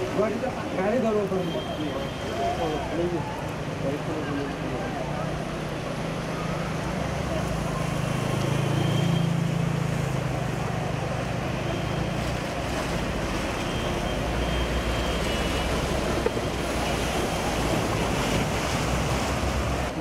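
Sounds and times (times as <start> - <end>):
floodwater surging and splashing: 0.0 - 20.0.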